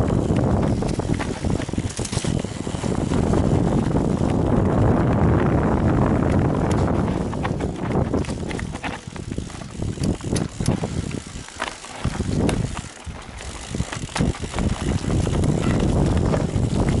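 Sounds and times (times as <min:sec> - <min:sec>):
bike clattering over bumps: 0:00.0 - 0:17.0
tyres rumbling on dirt and stones: 0:00.0 - 0:17.0.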